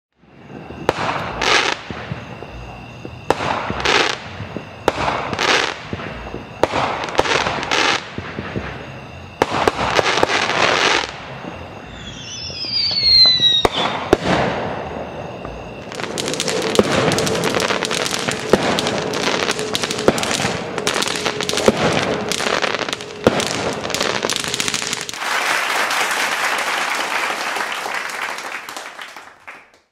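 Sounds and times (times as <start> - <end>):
whistling fireworks: 0.1 - 29.9
firework booms: 0.4 - 25.4
rapid firework bangs and crackling: 0.5 - 25.5.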